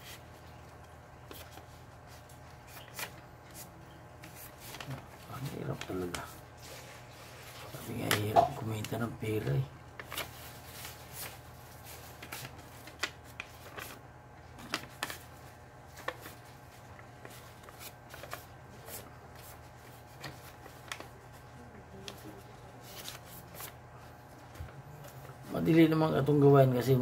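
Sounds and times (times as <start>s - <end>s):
paper rustling and crinkling: 0.0s - 25.9s
steady low hum: 0.0s - 27.0s.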